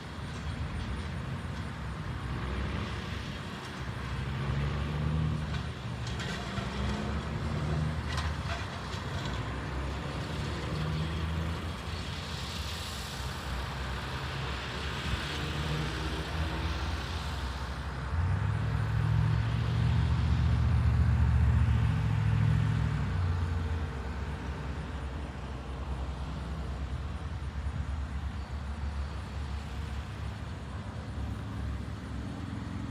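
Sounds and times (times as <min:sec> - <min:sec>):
heavy diesel engine rumbling: 0:00.0 - 0:32.9.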